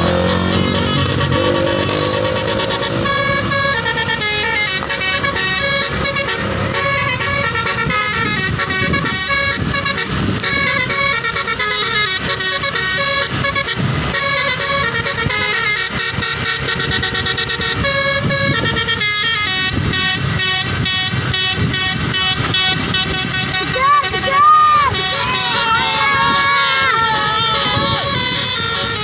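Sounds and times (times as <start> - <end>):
multi-tone air horn melody: 0.0 - 29.0.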